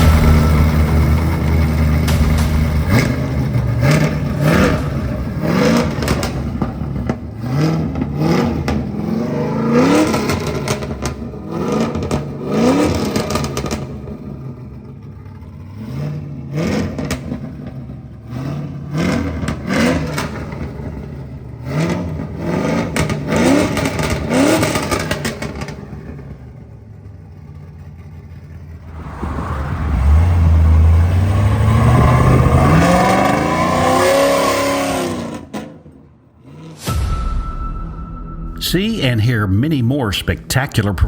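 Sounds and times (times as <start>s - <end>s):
truck engine idling and revving: 0.0s - 37.0s.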